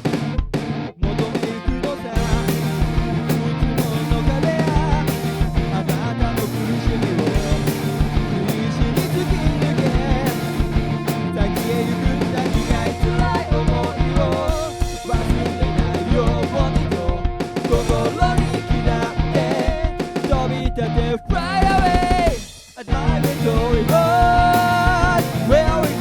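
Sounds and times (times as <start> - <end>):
rock band music: 0.0 - 26.0.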